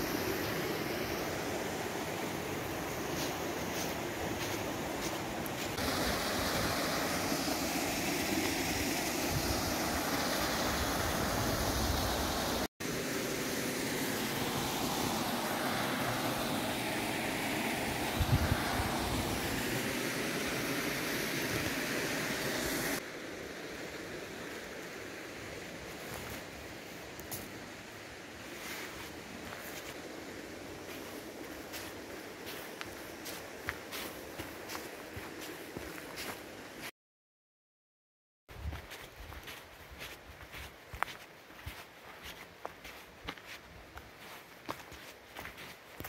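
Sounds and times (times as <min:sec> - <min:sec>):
mountain stream flowing: 0:00.0 - 0:36.9, 0:38.8 - 0:46.0.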